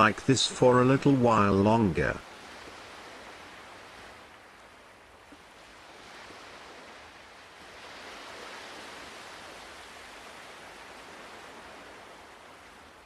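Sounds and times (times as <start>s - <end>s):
ocean waves washing ashore: 0.0s - 13.0s.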